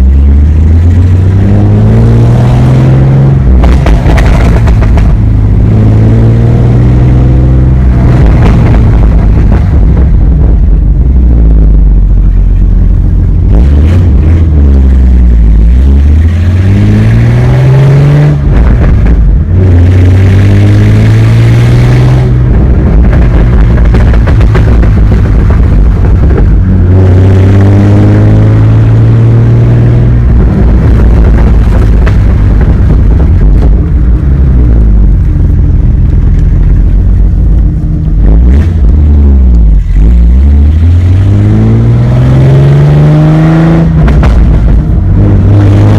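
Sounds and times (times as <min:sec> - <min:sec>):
car engine revving: 0:00.0 - 0:45.9
exhaust crackles and pops: 0:00.0 - 0:45.9.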